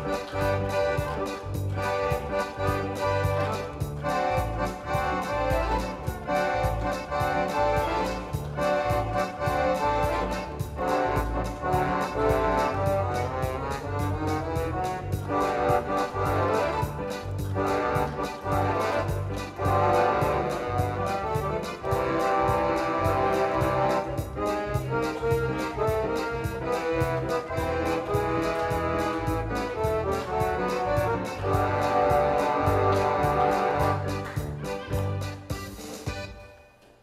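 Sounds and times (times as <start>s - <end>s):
accordion playing oom-pah music: 0.0s - 36.6s.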